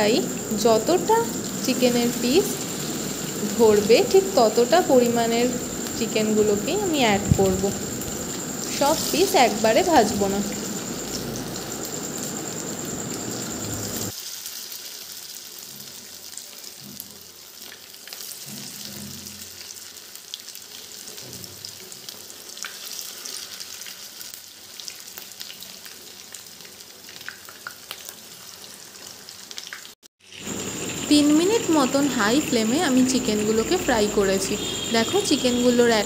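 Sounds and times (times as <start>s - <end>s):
chicken frying in hot oil: 0.0s - 36.0s.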